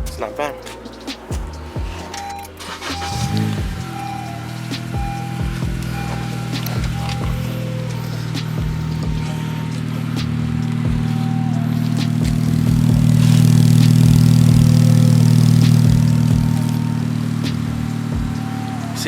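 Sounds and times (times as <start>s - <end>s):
car exhaust drone: 0.0s - 19.0s.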